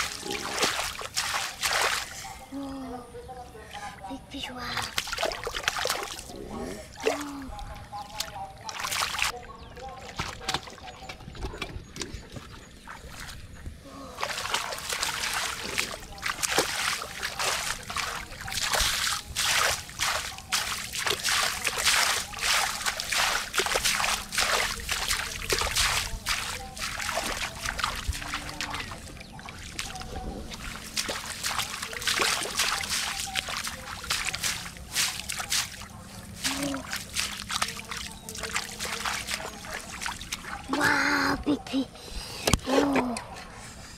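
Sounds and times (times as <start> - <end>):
shallow water splashing: 0.0 - 2.4, 4.8 - 41.0.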